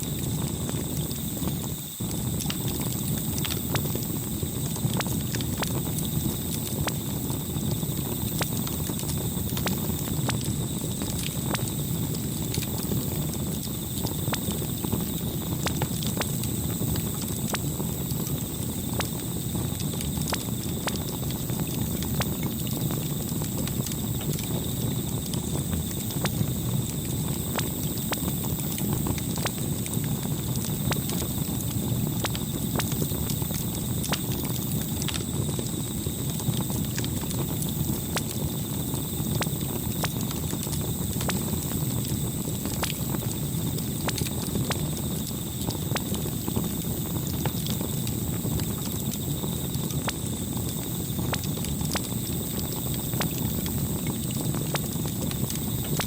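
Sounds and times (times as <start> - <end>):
campfire burning: 0.0 - 56.0
fire crackling and popping: 0.0 - 56.0.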